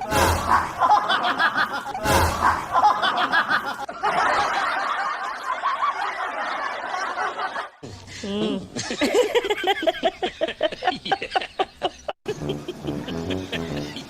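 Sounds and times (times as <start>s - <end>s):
canned laughter: 0.3s - 14.0s.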